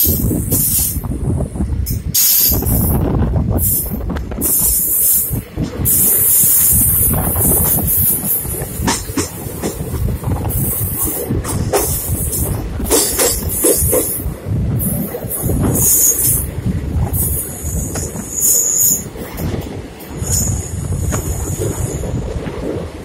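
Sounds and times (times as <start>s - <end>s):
rushing wind: 0.0s - 23.0s
train wheels rumbling and rattling: 0.0s - 23.0s.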